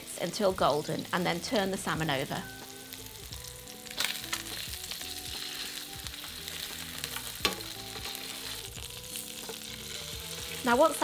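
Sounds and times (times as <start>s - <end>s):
fish sizzling in frying pan: 0.0s - 11.0s.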